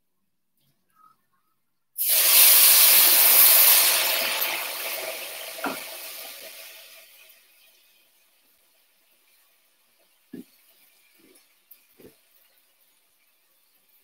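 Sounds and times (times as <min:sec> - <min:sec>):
boiling water pouring with hiss: 0:02.0 - 0:14.0.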